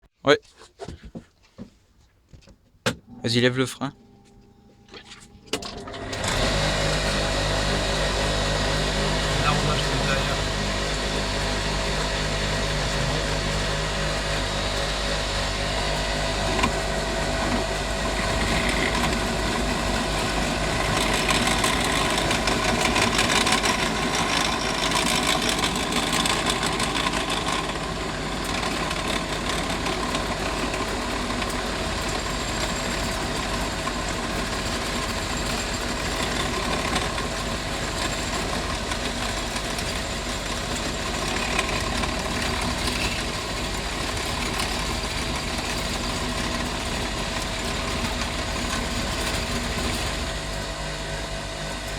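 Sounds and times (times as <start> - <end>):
lathe motor humming: 3.1 - 51.9.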